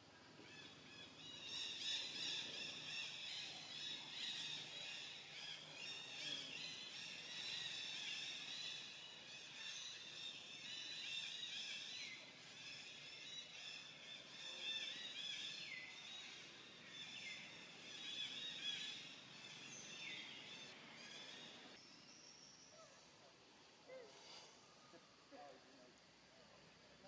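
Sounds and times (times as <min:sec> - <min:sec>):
chorus of wildlife calls: 0:00.1 - 0:21.8.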